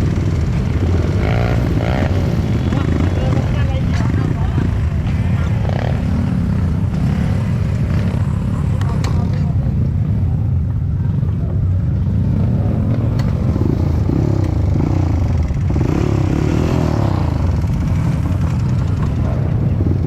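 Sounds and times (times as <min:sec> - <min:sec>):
dirt bike engine revving: 0:00.0 - 0:09.0, 0:12.2 - 0:19.4.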